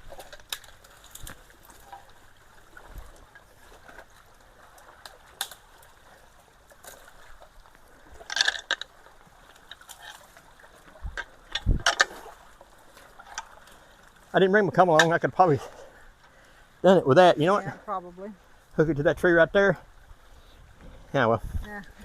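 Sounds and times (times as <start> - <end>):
water trickling and sloshing: 0.0 - 22.0.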